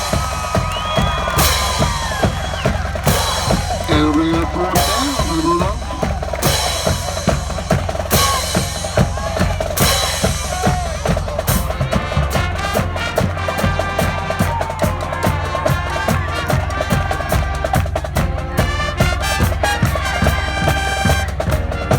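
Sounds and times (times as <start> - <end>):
brass chords: 0.0 - 21.9
marching drum beat: 0.0 - 21.9.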